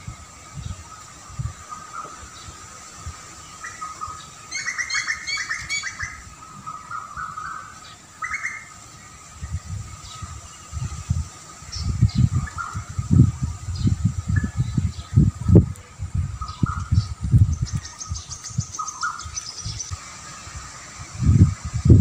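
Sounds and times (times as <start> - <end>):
birds chirping: 0.0 - 22.0
wind rumble on microphone: 0.0 - 22.0.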